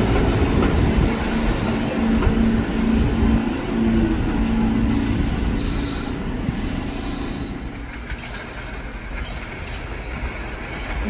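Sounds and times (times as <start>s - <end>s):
distant train approaching: 0.0s - 11.0s
subway train running on rails: 0.0s - 11.0s.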